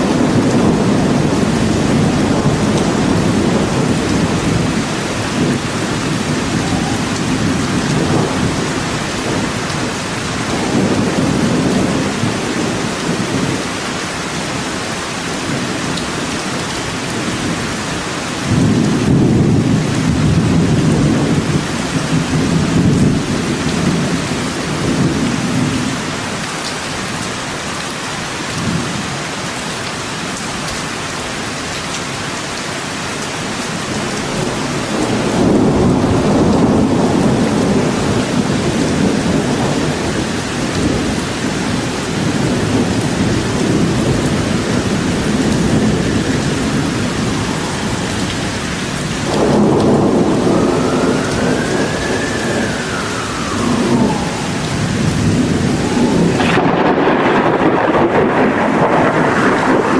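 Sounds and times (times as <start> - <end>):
rolling thunder: 0.0 - 14.8, 15.4 - 26.2, 33.9 - 59.9
heavy rain: 0.0 - 59.9.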